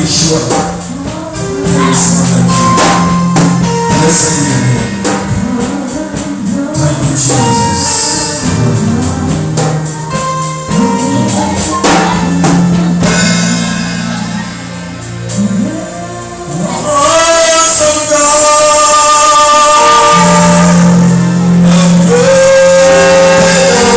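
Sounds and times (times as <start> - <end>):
band playing: 0.0 - 23.9
choir singing gospel: 0.0 - 23.9.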